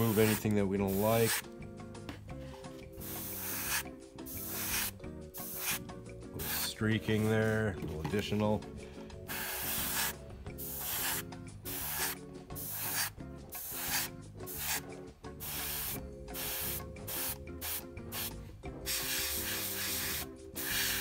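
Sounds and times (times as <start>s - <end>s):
airbrush hissing in bursts: 0.0s - 1.4s, 2.8s - 6.8s, 9.2s - 21.0s
soft background music: 0.0s - 21.0s.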